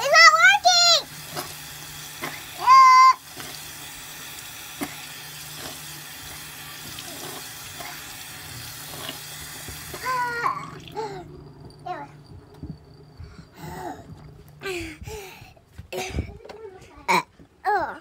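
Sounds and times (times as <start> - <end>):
water running from a tap: 0.0 - 14.6.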